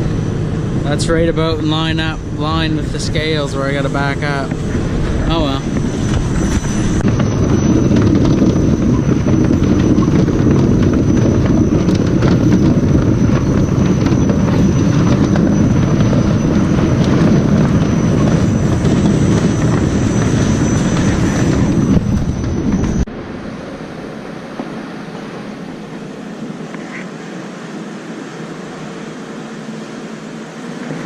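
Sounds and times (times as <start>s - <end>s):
diesel truck engine rumbling: 0.0s - 26.8s
thin high whine: 0.0s - 31.0s.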